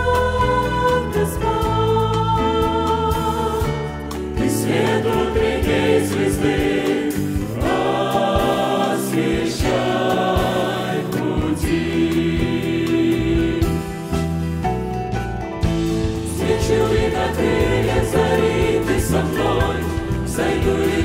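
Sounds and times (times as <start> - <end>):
church choir singing in harmony: 0.0 - 14.6, 15.7 - 21.0.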